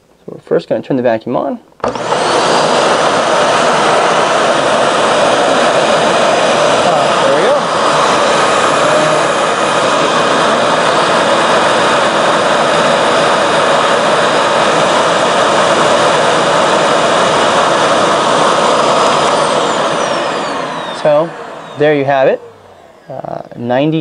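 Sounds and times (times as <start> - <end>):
vacuum cleaner motor running: 1.8 - 24.0.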